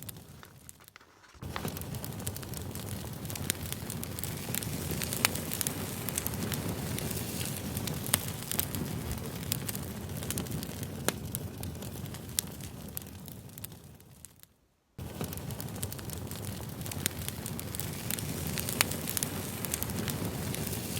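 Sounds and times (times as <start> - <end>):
campfire crackling and popping: 0.0 - 20.9
low rush of flames: 0.0 - 20.9.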